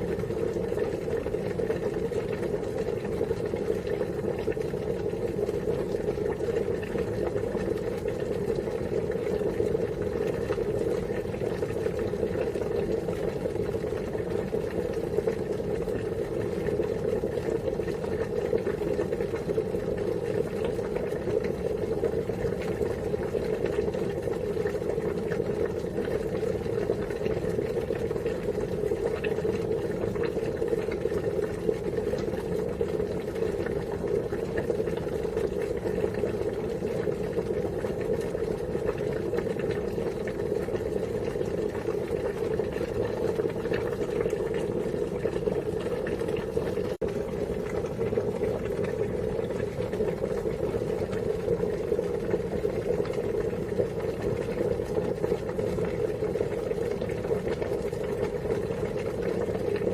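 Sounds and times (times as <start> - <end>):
water boiling: 0.0 - 59.9.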